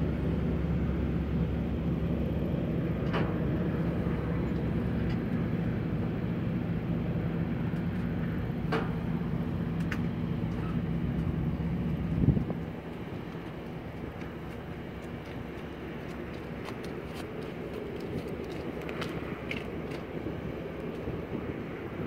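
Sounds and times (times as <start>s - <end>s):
diesel engines droning: 0.0s - 22.0s.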